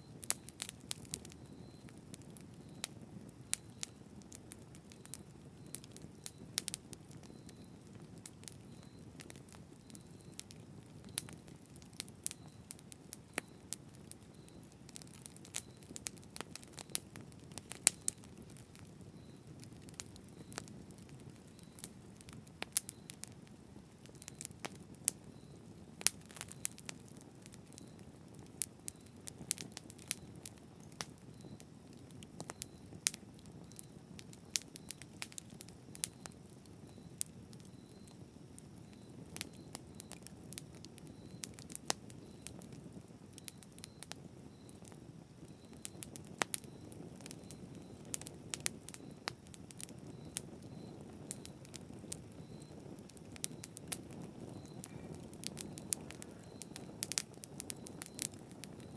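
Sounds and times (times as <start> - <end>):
burning wood crackling and popping: 0.0 - 58.9
campfire flames rushing: 0.1 - 58.9.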